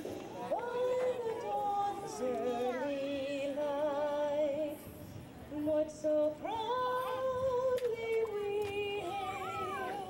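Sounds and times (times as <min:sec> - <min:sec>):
woman singing over loudspeakers: 0:00.4 - 0:04.9, 0:05.5 - 0:10.0.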